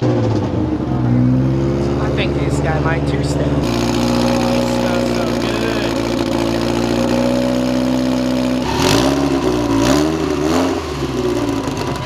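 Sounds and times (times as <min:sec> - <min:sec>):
car engine idling and revving: 0:00.0 - 0:12.0
exhaust pops: 0:00.0 - 0:12.0.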